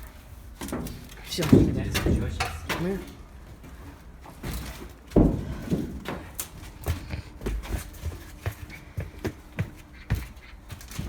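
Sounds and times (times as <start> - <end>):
footsteps: 0.7 - 11.0.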